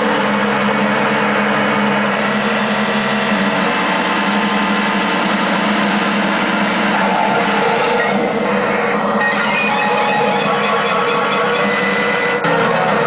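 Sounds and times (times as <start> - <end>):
keyboard droning tone: 0.0 - 13.0.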